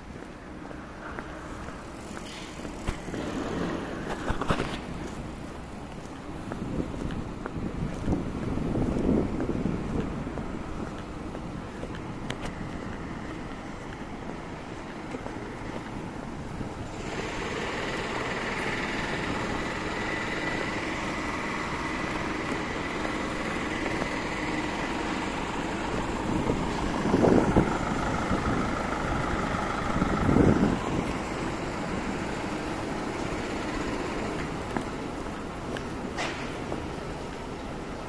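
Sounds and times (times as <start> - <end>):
bus engine idling: 0.0 - 38.0.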